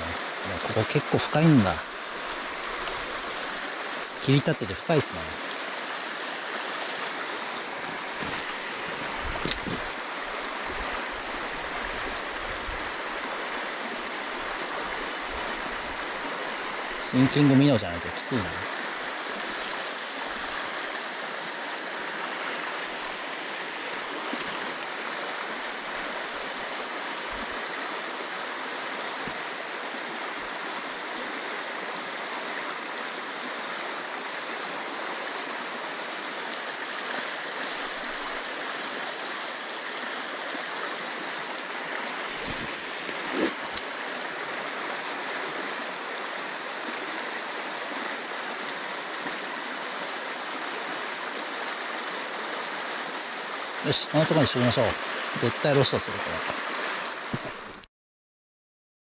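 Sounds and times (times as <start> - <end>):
mountain stream rushing: 0.0 - 57.8.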